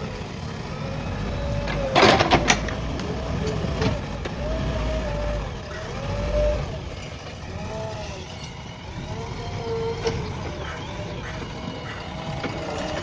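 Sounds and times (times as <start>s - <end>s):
backhoe loader running: 0.0s - 13.0s.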